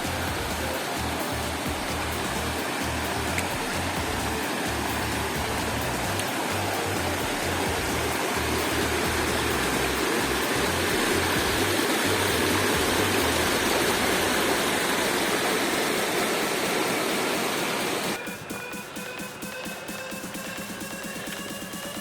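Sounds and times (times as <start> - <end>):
rushing mountain water: 0.0 - 22.0.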